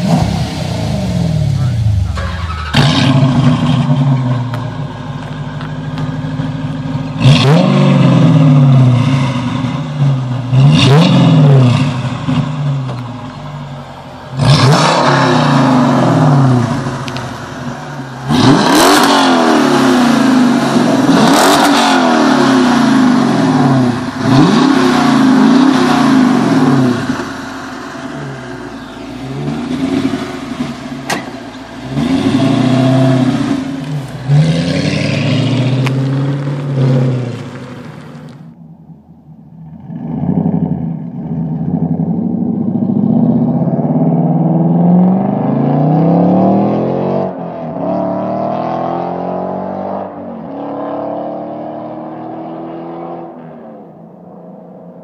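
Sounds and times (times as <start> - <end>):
car engine revving: 0.0 - 38.6, 39.6 - 54.4.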